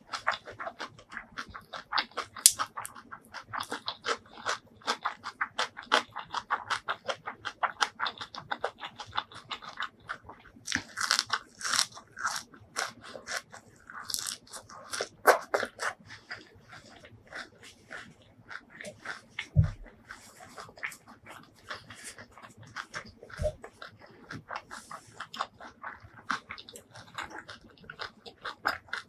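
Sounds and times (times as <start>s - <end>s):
chewing crisp vegetables: 0.0s - 29.0s.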